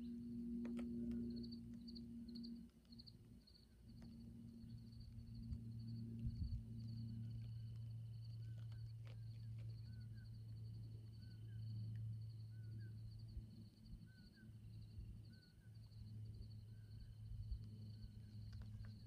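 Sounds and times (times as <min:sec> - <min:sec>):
low steady hum: 0:00.0 - 0:19.0
insects chirping in pulses: 0:00.2 - 0:19.0.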